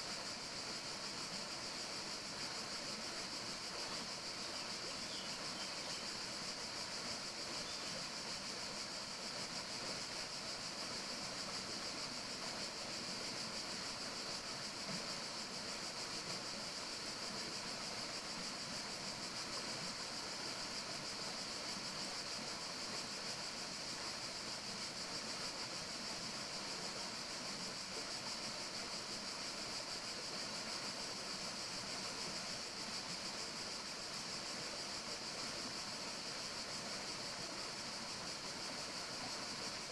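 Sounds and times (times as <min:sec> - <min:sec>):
forest ambience rushing hiss: 0:00.0 - 0:39.9.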